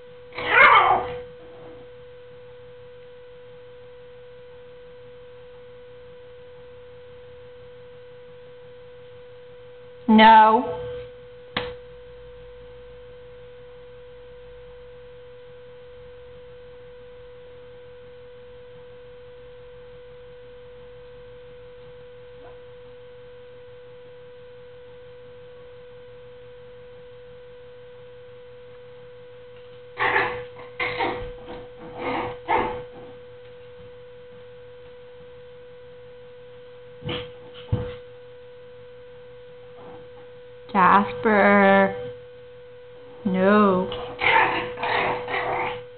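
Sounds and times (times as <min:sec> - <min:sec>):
low hum: 0:00.0 - 0:45.9.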